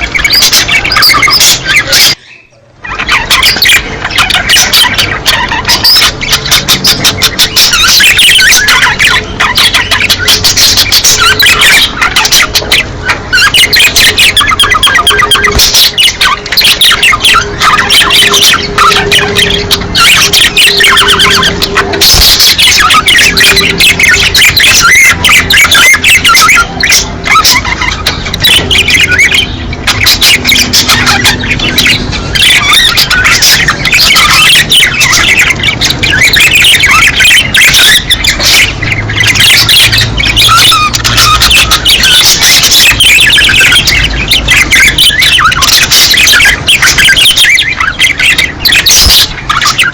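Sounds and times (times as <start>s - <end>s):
budgerigars chattering and squawking: 0.0s - 49.9s.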